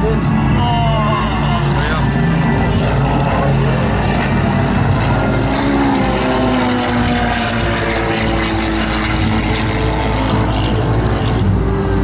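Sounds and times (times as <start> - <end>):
propeller planes flying over: 0.0 - 12.0.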